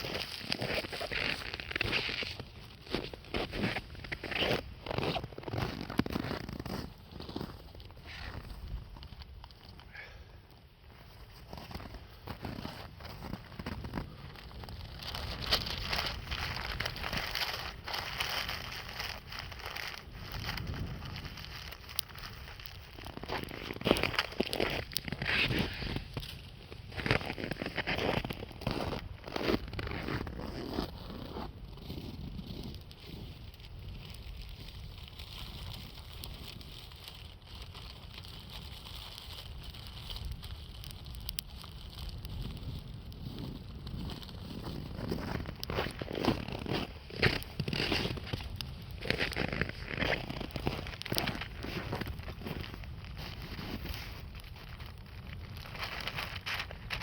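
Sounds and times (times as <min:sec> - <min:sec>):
campfire crackling and popping: 0:00.0 - 0:57.0
wind rumbling on microphone: 0:00.0 - 0:57.0.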